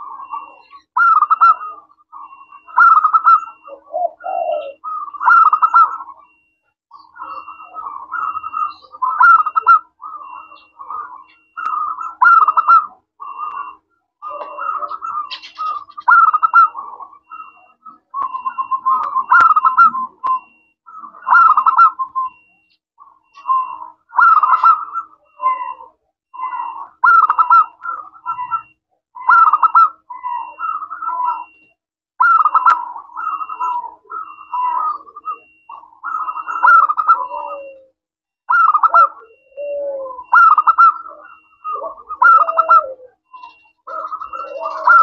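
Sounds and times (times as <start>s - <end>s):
dove cooing: 0.0s - 45.0s
faint high chirp: 0.0s - 45.0s.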